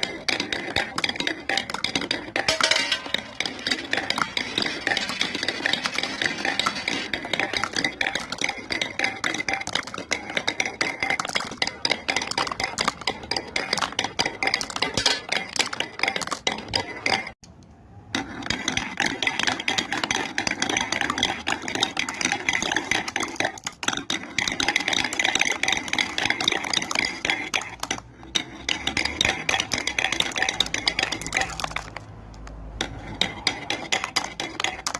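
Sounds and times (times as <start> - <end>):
marbles rattling down wooden run: 0.0 - 17.4, 18.1 - 34.9.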